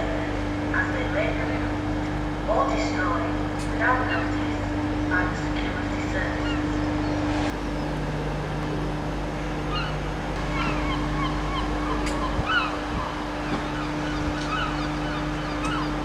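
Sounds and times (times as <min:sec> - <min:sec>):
gulls calling: 0:00.0 - 0:16.0
low engine drone: 0:00.0 - 0:16.0.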